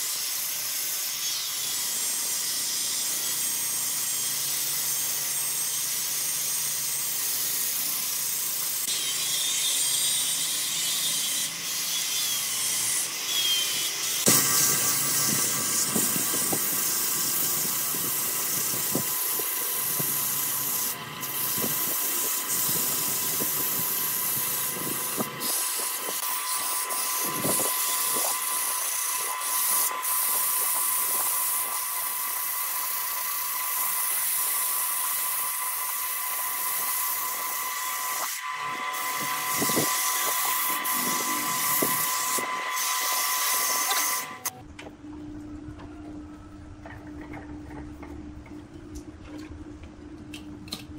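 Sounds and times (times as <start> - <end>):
sandpaper sanding hiss: 0.0 - 44.3
wood lathe whine: 0.0 - 44.5.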